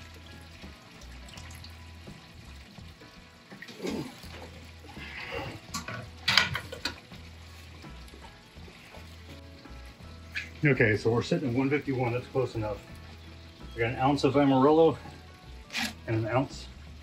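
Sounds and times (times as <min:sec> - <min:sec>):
liquid pouring and splashing: 0:00.0 - 0:13.2, 0:13.8 - 0:16.5
water dripping: 0:00.0 - 0:16.8.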